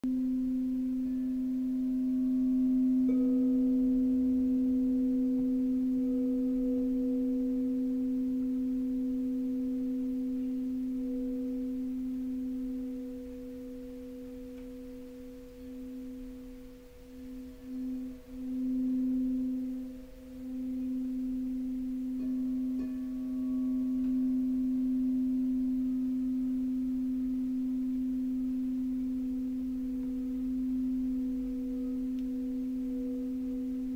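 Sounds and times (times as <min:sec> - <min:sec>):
singing bowl ringing: 0:00.1 - 0:33.9
singing bowl struck: 0:00.1 - 0:33.9.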